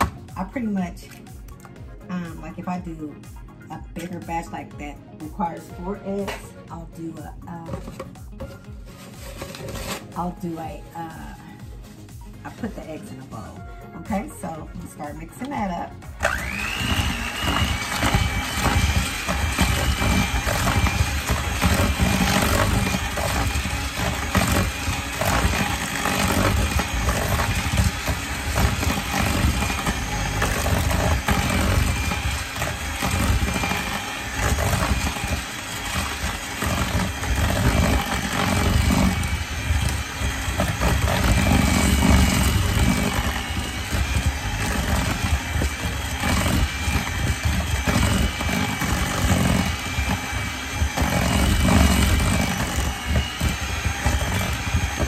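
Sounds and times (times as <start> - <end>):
electric hand mixer running: 0.0 - 0.4, 7.2 - 55.0.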